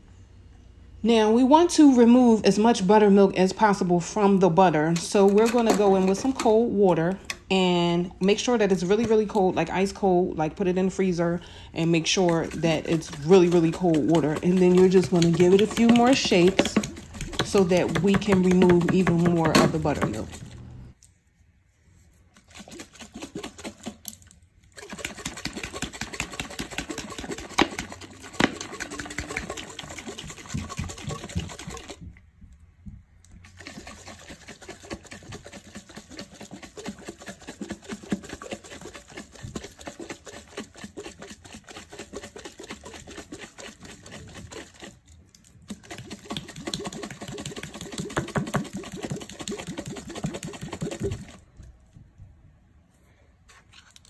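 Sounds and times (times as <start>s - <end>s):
water sloshing in shaken jar: 2.6s - 20.9s, 22.2s - 32.1s, 33.4s - 51.8s.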